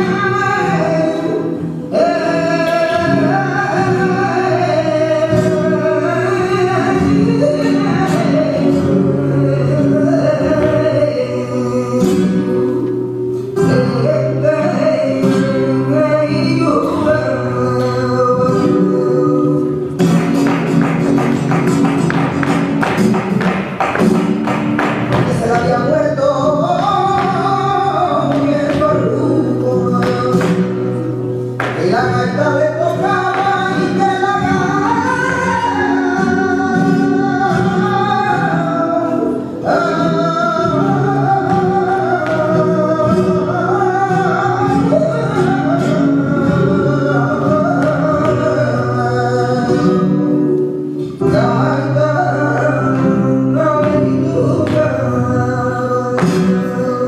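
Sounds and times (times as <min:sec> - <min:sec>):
solo voice singing: 0:00.0 - 0:22.6, 0:25.0 - 0:57.0
flamenco accompaniment: 0:00.0 - 0:57.0.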